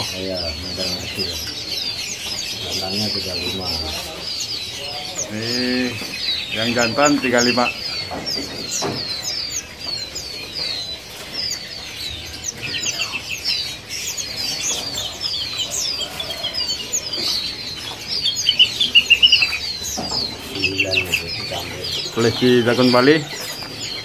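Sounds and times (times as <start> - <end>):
caged songbirds chirping: 0.0 - 24.0.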